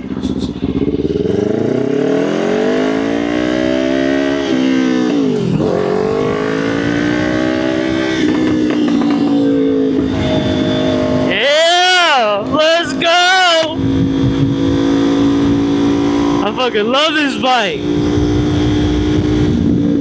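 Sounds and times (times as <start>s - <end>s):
motorcycle engine revving through gears: 0.0s - 12.6s, 13.6s - 20.0s.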